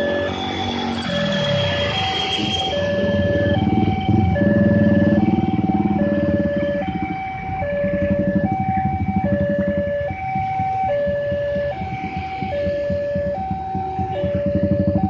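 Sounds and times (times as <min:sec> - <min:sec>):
car and motorbike engines: 0:00.0 - 0:15.0.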